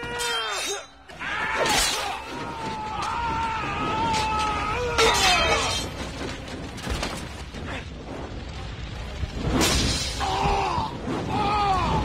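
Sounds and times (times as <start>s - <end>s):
film score: 0.0s - 12.0s
rumbling battle noise: 1.2s - 12.0s.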